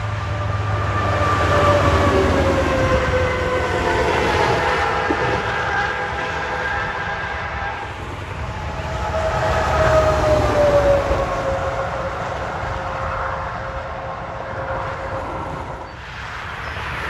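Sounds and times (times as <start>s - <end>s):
truck engine drone passing: 0.0s - 17.0s.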